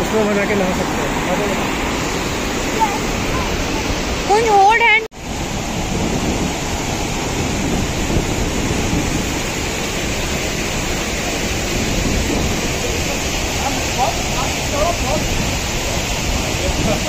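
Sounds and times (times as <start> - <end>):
waterfall and rushing river: 0.0 - 17.0.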